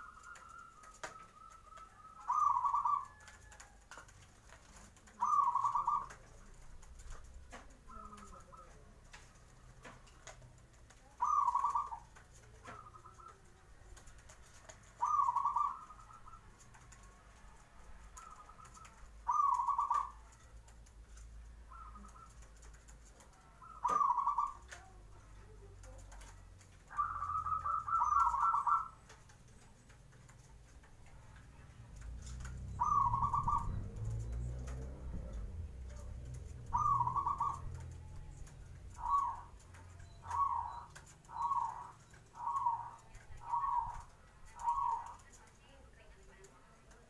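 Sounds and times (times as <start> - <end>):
dove cooing: 0.0 - 47.0.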